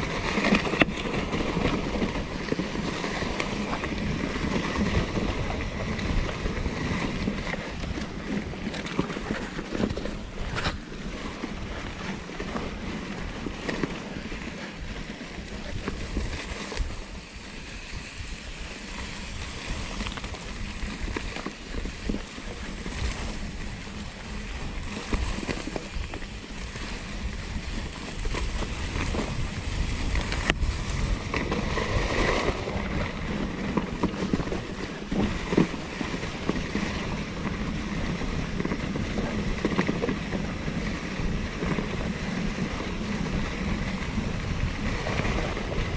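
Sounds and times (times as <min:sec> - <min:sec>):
bike rattling and clicking: 0:00.0 - 0:45.9
bike tyres rumbling on dirt: 0:00.0 - 0:45.9
wind on microphone: 0:00.0 - 0:45.9.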